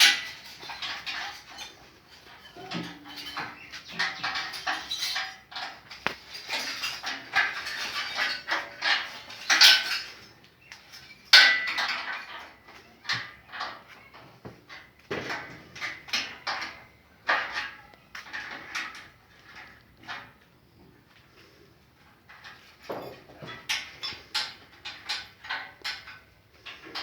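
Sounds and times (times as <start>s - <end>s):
metal tools clanking: 0.0s - 20.4s, 22.2s - 27.0s.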